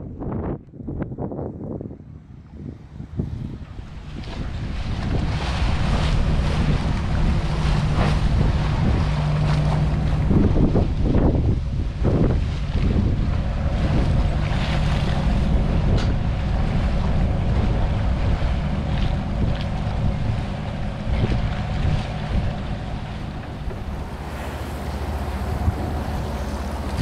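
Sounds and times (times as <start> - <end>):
wind buffeting microphone: 0.0 - 27.0
boat diesel engine humming: 1.5 - 27.0.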